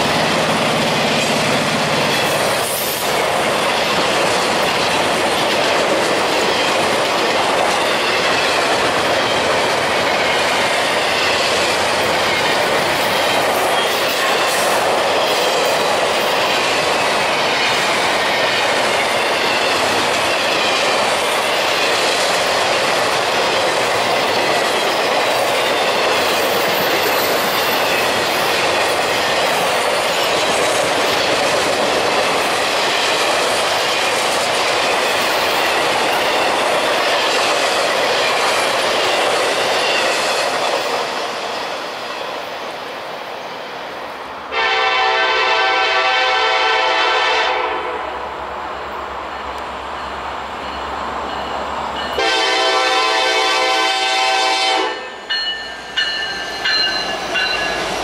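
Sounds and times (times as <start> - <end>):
railcar wheels clattering on rails: 0.0 - 42.8, 48.7 - 58.0.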